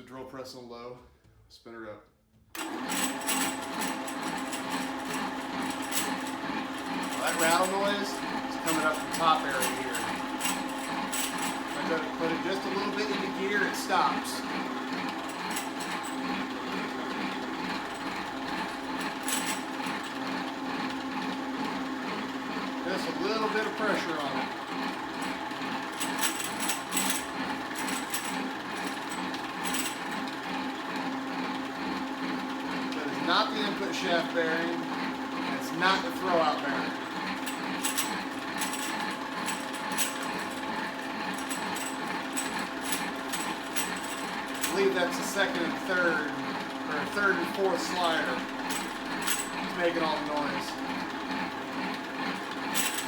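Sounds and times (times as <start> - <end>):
drill press spinning gears: 2.6 - 53.0.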